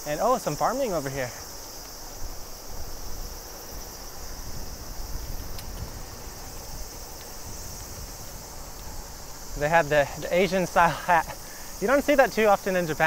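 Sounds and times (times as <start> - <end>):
insects chorus: 0.0 - 13.0
wind rumble on microphone: 1.9 - 12.8.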